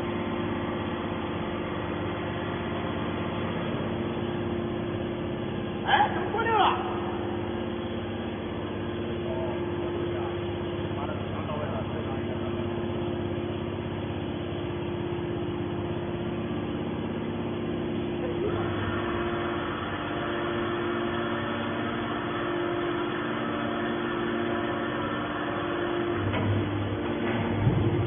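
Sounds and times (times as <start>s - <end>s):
baler machine humming: 0.0s - 28.0s.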